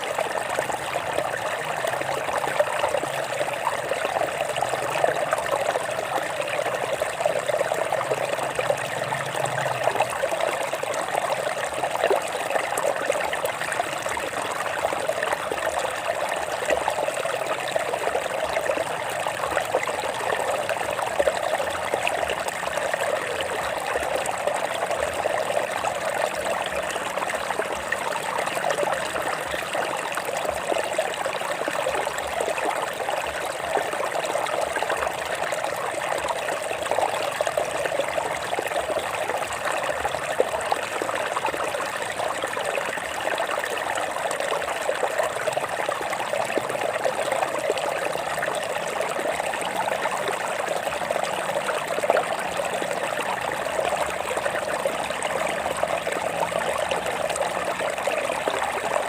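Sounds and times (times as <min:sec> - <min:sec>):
water trickling over rocks: 0:00.0 - 0:59.0.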